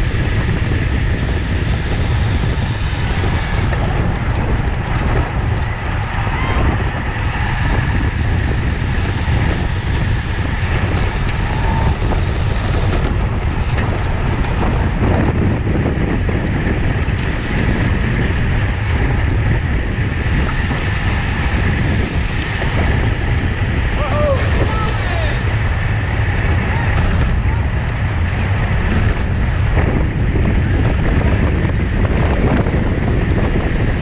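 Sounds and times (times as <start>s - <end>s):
loud wind rushing over microphone: 0.0s - 34.0s.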